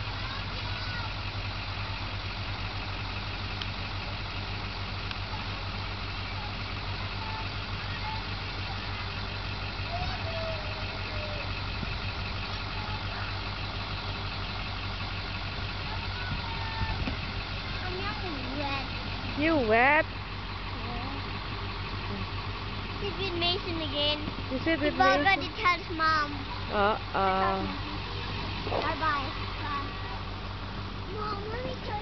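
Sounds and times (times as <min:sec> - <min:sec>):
faint voices: 0:00.0 - 0:02.9, 0:03.8 - 0:32.0
bus diesel engine idling: 0:00.0 - 0:32.0.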